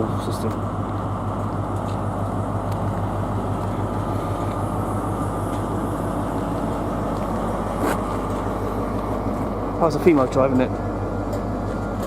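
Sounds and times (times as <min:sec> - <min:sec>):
constant low hum: 0:00.0 - 0:12.0
electric train rumble: 0:00.0 - 0:12.0.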